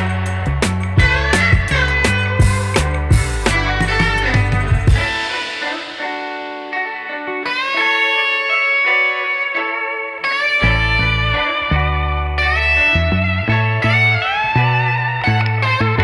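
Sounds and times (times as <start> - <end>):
guitar background music: 0.0 - 16.0.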